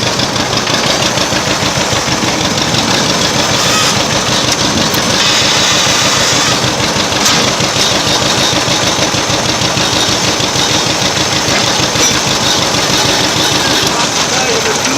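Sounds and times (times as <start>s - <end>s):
old engine running: 0.0s - 14.9s.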